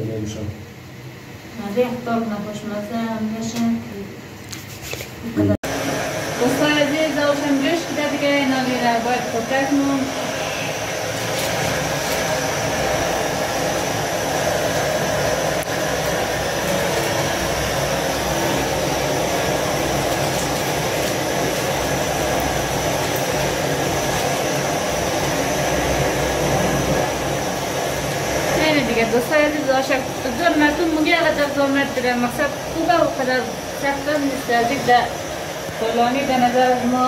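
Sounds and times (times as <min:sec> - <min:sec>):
gas burner flame hissing: 0:05.0 - 0:37.0.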